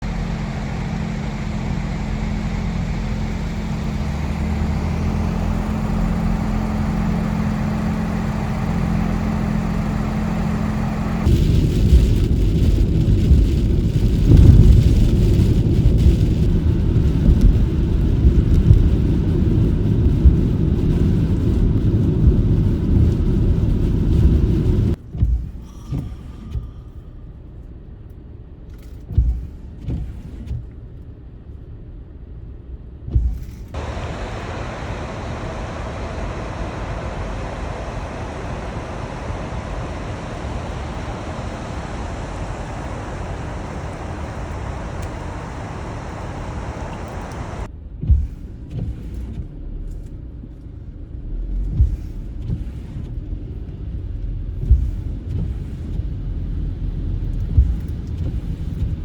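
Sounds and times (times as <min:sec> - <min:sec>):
car road noise hum: 0:00.0 - 0:25.4, 0:27.0 - 0:59.0
rough road rumble with knocks: 0:00.1 - 0:26.8, 0:28.7 - 0:30.9, 0:33.1 - 0:59.0.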